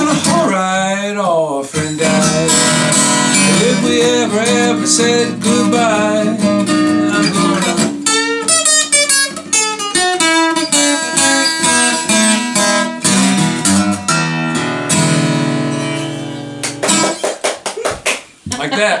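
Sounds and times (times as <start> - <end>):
acoustic guitar picking: 0.0 - 17.4.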